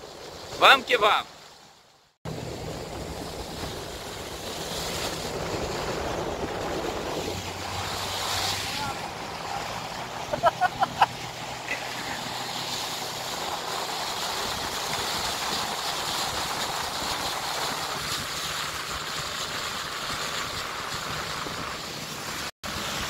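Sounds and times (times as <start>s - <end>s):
water rushing past hull: 0.0s - 23.0s
outboard motor running: 2.3s - 23.0s.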